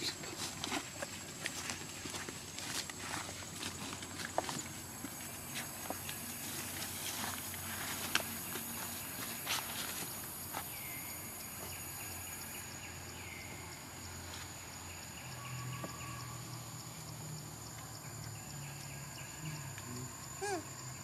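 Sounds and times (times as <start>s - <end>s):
insects buzzing and chirping: 0.0s - 21.0s.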